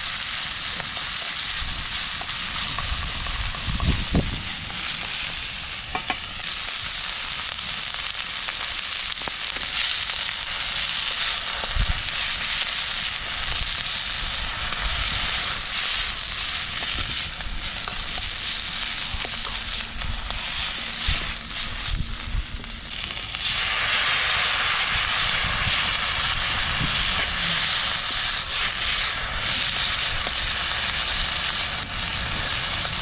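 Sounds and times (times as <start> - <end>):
food sizzling in a wok: 0.0 - 33.0
sharp crackles: 0.0 - 33.0.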